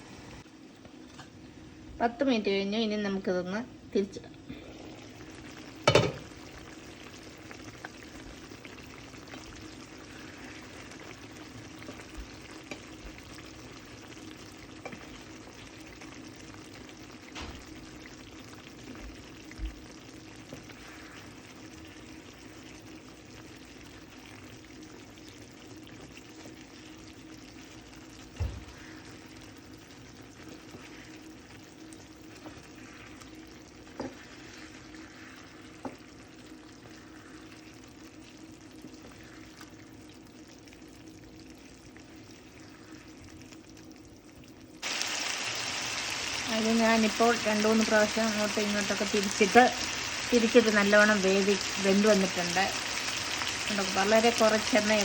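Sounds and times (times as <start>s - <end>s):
chicken sizzling in hot oil: 4.0s - 55.0s.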